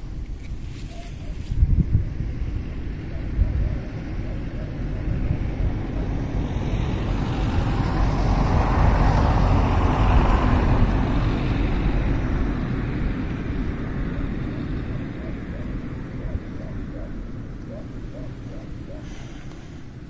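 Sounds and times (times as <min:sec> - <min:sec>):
road vehicle passing by: 0:00.0 - 0:20.0
wind rumble on microphone: 0:00.0 - 0:20.0.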